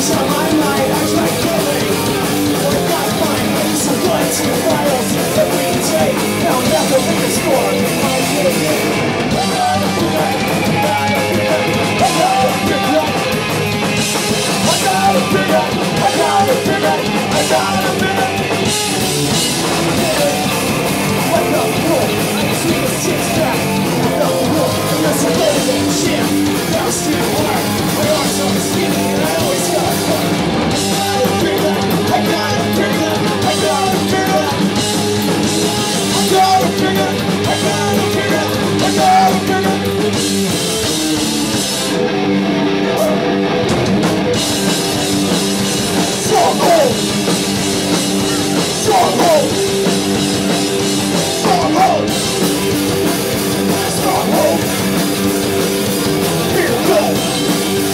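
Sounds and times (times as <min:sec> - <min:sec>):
bass guitar: 0:00.0 - 0:57.9
distorted electric guitar: 0:00.0 - 0:57.9
drum kit: 0:00.0 - 0:57.9.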